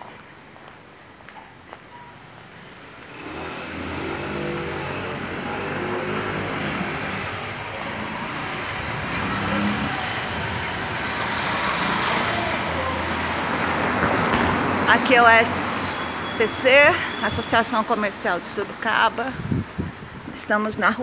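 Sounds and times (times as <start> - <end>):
tyre and road noise: 0.0 - 21.0.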